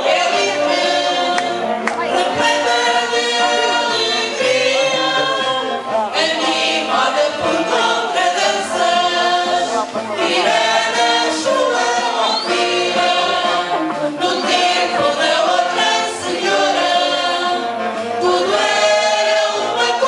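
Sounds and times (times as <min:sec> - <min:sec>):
bass line: 0:00.0 - 0:19.2
group of voices singing: 0:00.0 - 0:20.0
instrumental accompaniment: 0:00.0 - 0:20.0.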